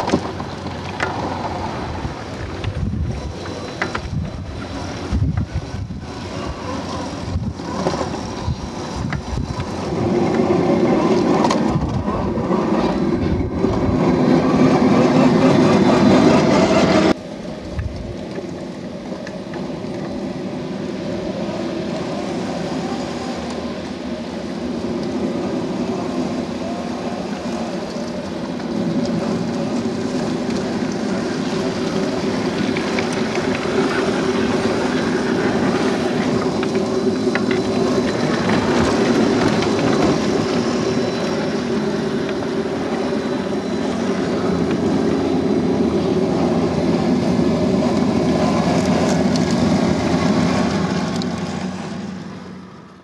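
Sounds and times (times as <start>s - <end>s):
electric motors whining: 0.0s - 53.0s
tires crunching over gravel: 0.0s - 53.0s.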